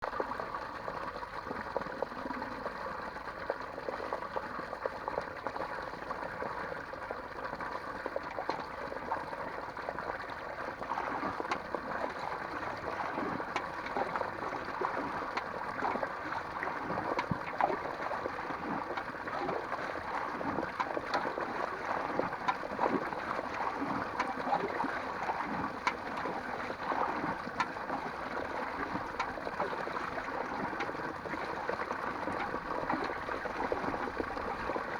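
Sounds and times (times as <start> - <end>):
small splashes and drips: 0.1 - 34.9.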